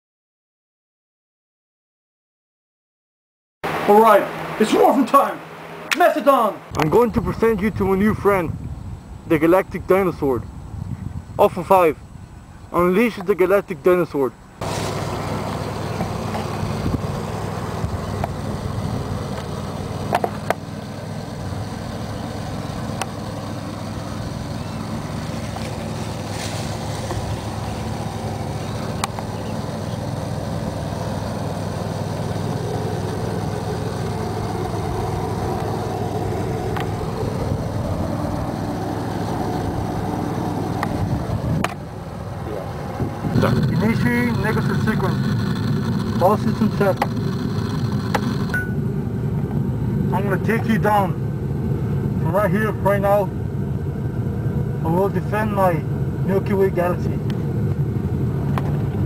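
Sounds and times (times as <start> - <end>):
engine running rumble: 3.6 - 59.0.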